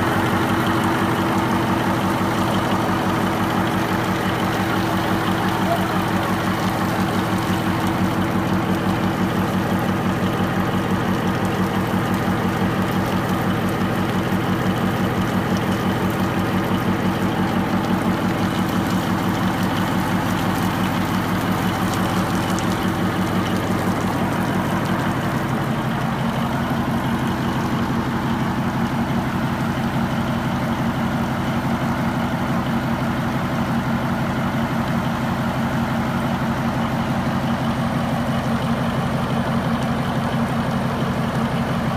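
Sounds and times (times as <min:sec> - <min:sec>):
marine diesel engine running: 0:00.0 - 0:41.9.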